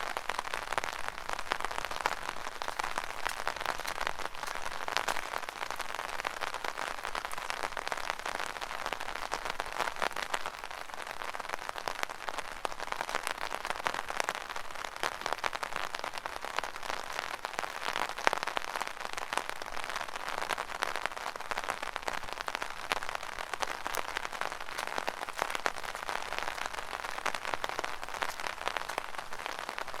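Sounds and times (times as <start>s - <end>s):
rain drumming on an umbrella: 0.0s - 30.0s.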